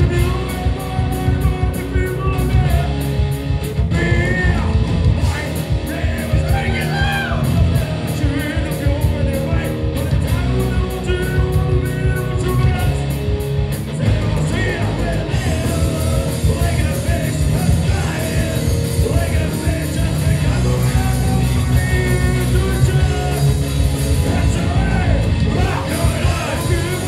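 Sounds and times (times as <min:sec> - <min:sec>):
bass guitar: 0:00.0 - 0:27.0
drums: 0:00.0 - 0:27.0
electric guitars: 0:00.0 - 0:27.0
lead vocals: 0:00.0 - 0:27.0.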